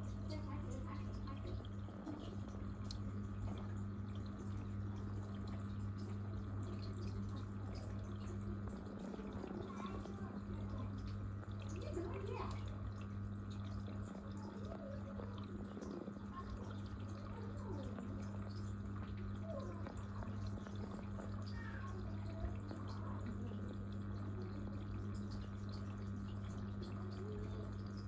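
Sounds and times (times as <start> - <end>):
steady low hum: 0.0 - 28.0
water gurgles: 0.0 - 28.0
water trickling and dripping: 0.0 - 28.0.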